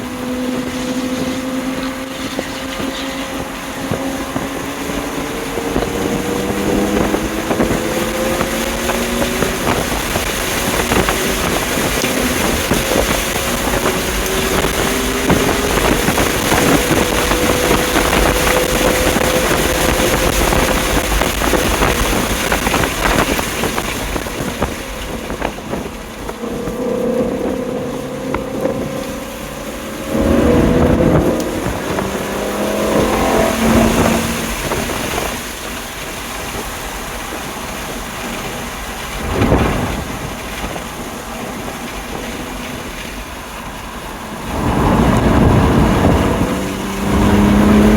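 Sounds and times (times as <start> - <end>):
car engine revving: 0.0 - 47.9
wind and road noise: 0.0 - 47.9.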